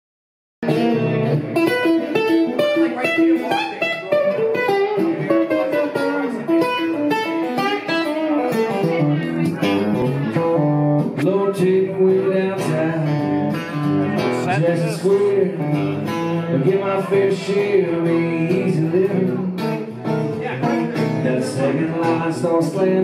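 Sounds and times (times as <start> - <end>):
electric guitar solo: 0.6 - 11.2, 12.1 - 22.5.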